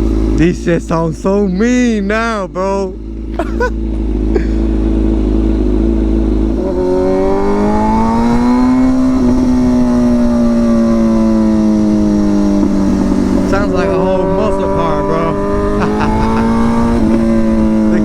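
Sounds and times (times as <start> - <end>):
loud motorcycle engine accelerating: 0.0 - 18.0.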